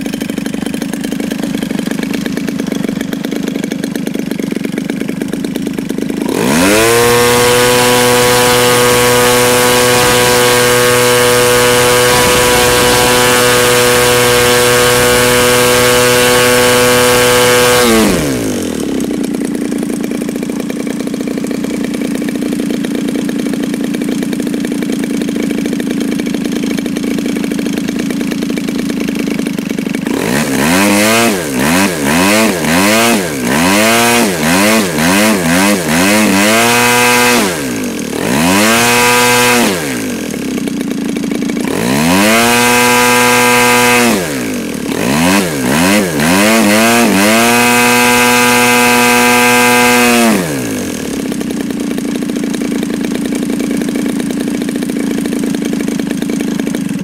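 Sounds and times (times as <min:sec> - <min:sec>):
propeller spinning: 0:00.0 - 0:57.0
small two-stroke engine revving: 0:00.0 - 0:57.0.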